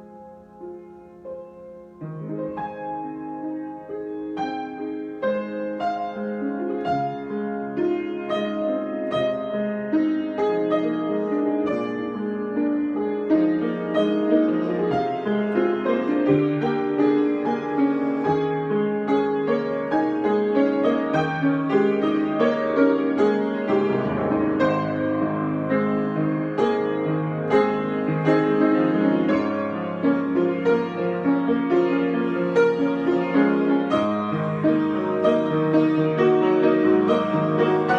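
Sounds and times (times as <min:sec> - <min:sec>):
solo piano: 0:00.0 - 0:37.9.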